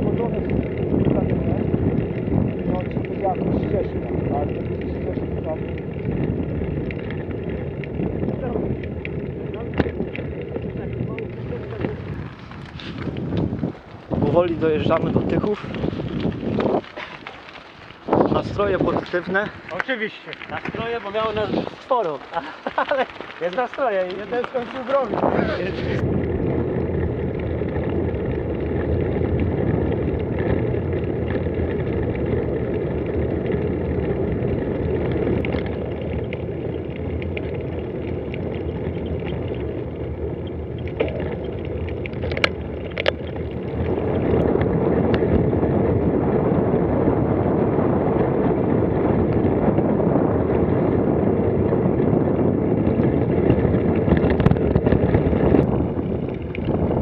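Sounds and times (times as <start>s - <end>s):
bicycle tyres on gravel: 0.0s - 57.0s
wind on microphone: 0.0s - 57.0s.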